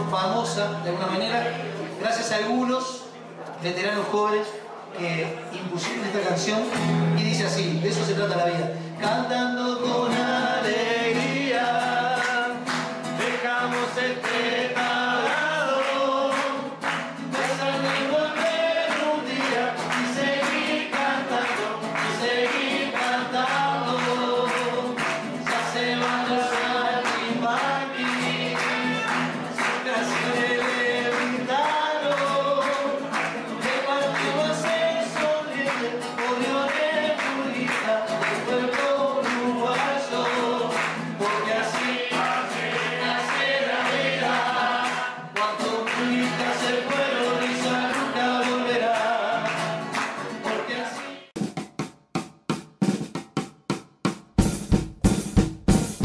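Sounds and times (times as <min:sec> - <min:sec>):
man singing: 0:03.7 - 0:51.4.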